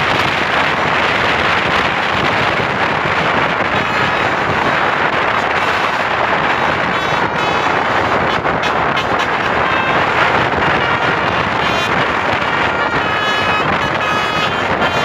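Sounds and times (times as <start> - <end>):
bus approaching: 0.0 - 15.0
multi-tone air horn: 0.0 - 15.0
wind on microphone: 0.0 - 15.0.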